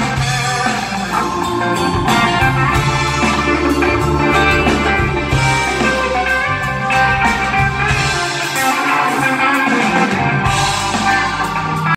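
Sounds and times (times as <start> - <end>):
bass guitar: 0.0 - 11.9
drum kit: 0.0 - 11.9
electric guitars: 0.0 - 11.9.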